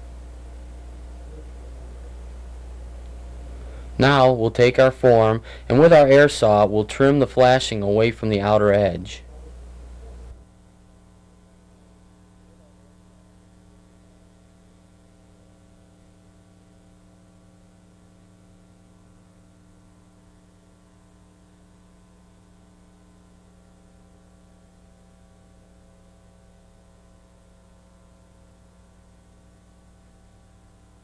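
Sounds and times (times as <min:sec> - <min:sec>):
constant hiss: 0:00.0 - 0:31.0
faint electrical mains hum: 0:00.0 - 0:31.0.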